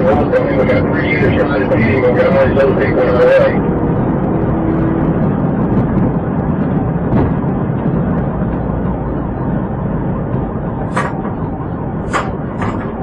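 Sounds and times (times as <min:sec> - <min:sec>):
vehicle rumbling roar: 0:00.0 - 0:13.0.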